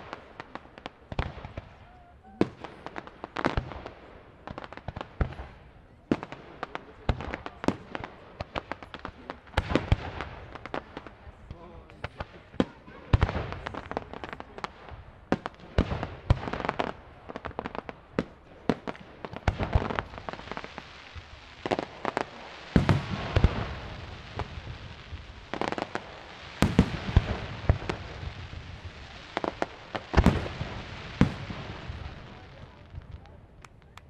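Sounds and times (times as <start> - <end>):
fireworks bursting with sharp bangs: 0.0 - 34.0.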